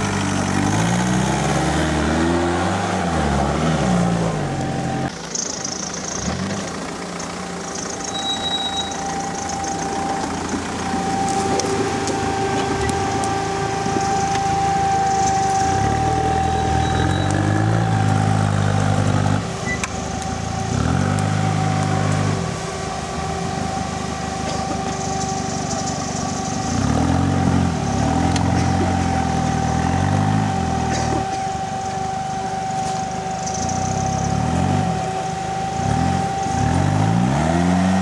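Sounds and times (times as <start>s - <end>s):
off-road vehicle engine revving: 0.0s - 38.0s
steady high-pitched whine: 4.3s - 37.7s.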